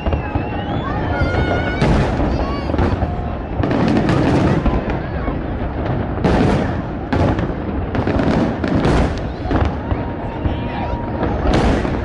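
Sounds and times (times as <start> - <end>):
fireworks booming: 0.0 - 12.0
fireworks crackle and rumble: 0.0 - 12.0.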